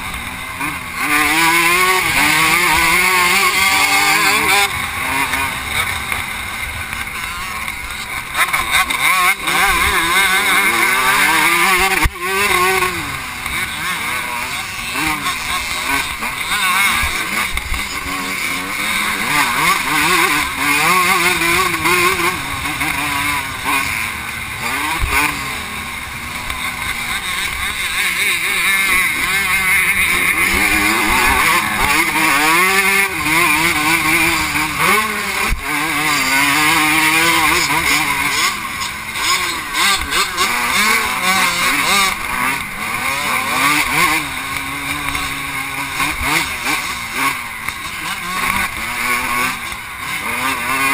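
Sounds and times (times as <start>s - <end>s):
motocross bike engine racing: 0.0s - 50.9s.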